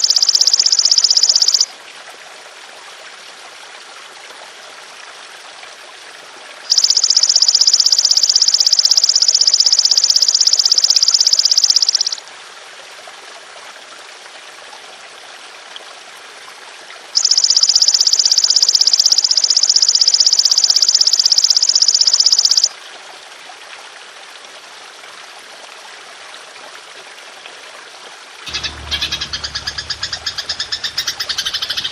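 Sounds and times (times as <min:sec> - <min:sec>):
trickle of running water: 0:00.0 - 0:31.9.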